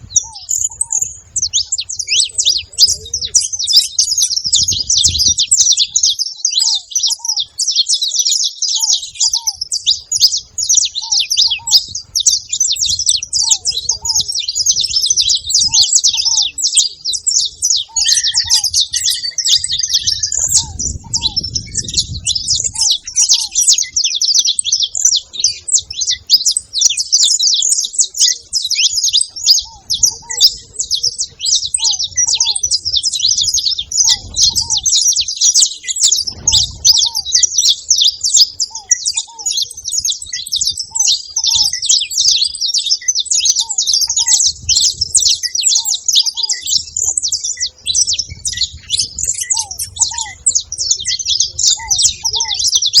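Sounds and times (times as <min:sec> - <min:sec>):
finch chirping and twittering: 0:00.0 - 0:53.0.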